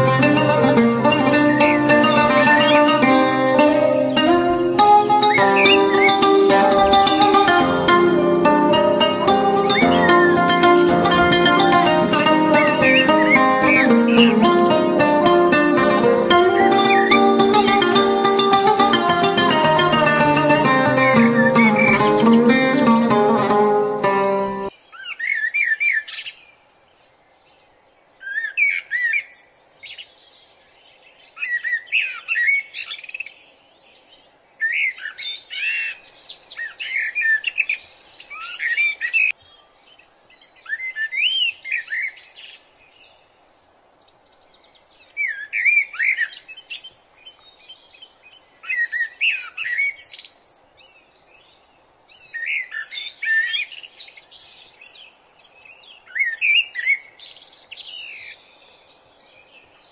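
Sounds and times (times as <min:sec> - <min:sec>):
faint background hiss: 0:00.0 - 0:59.9
songbird chirping and warbling: 0:00.0 - 0:59.9.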